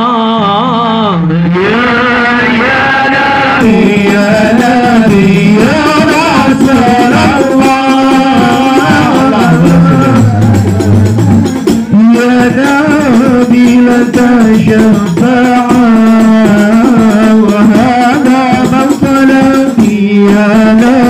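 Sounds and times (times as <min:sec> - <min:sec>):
man singing devotional song: 0:00.0 - 0:21.0
hand-played frame drums: 0:02.4 - 0:21.0.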